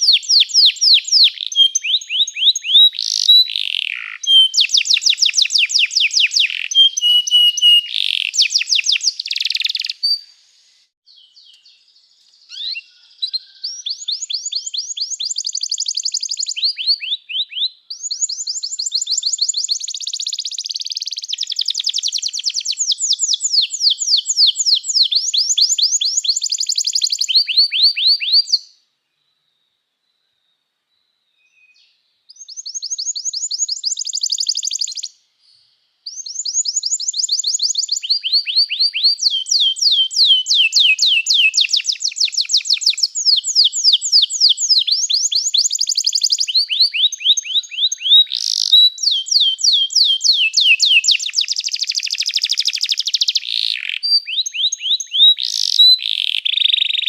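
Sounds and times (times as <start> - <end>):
canary singing trills: 0.0 - 10.3, 11.1 - 28.7, 36.0 - 57.0.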